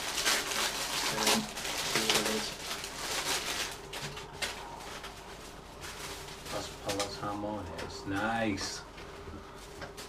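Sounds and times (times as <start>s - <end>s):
plastic packaging crinkling: 0.0s - 8.8s, 9.5s - 10.0s.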